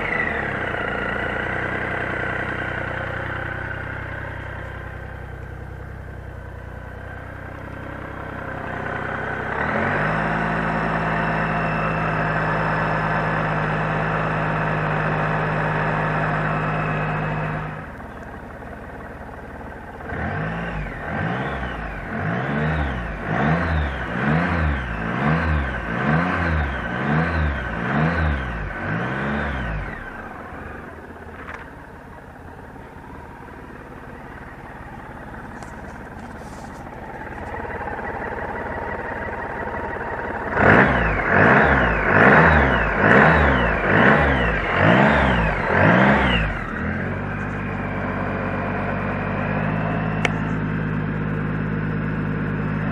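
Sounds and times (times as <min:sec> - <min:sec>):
motorcycle engine revving and idling: 0:00.0 - 0:52.9.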